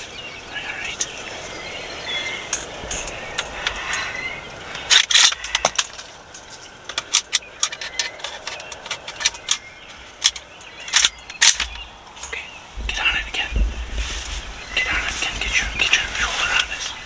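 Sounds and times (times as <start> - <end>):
light rustling: 0.0 - 17.0.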